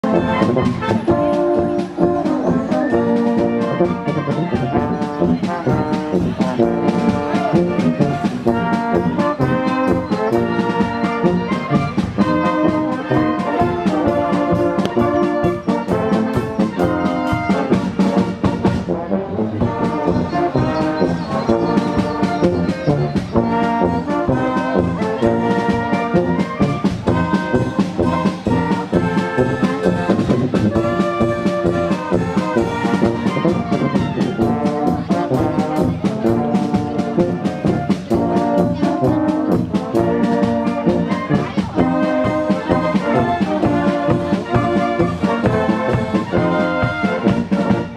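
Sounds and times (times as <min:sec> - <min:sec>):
brass horns playing chords: 0:00.0 - 0:47.9.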